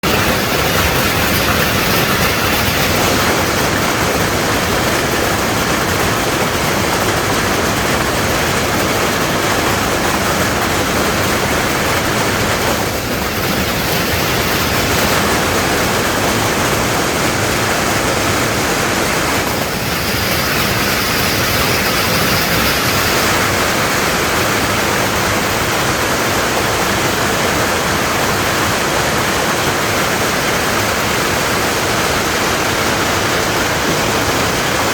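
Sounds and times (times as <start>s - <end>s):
heavy hail falling: 0.0s - 34.9s.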